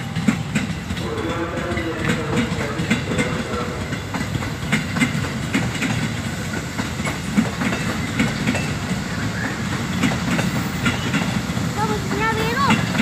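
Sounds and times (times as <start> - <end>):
electric train rumbling past: 0.0 - 13.0
train wheels knocking on rails: 0.0 - 13.0.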